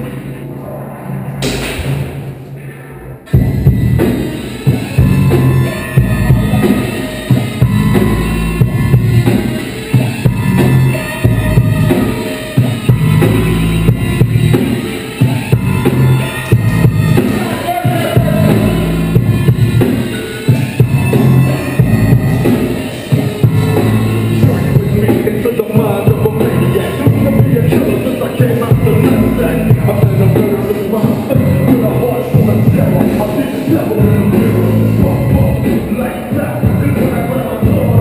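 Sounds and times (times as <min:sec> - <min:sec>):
music with drum-kit beat: 0:03.3 - 0:38.0.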